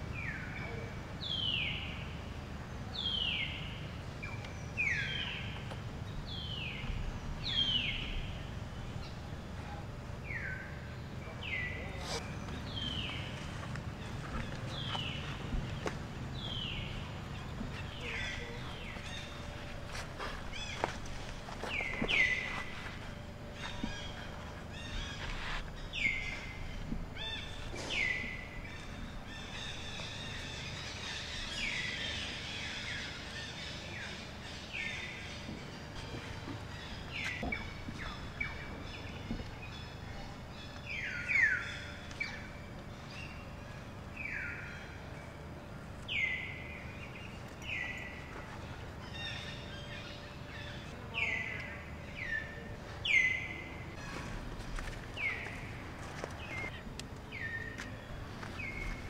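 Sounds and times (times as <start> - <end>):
bird calling: 0.0 - 59.0
outdoor background noise: 0.0 - 59.0.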